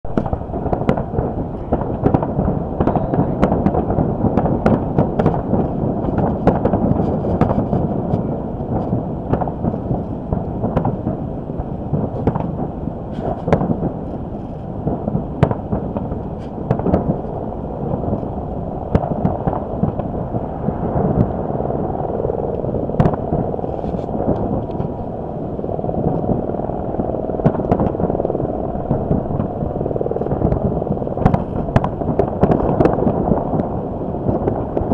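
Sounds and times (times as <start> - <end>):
wind buffeting microphone: 0.0 - 34.9
fireworks bangs and crackles: 0.1 - 34.9.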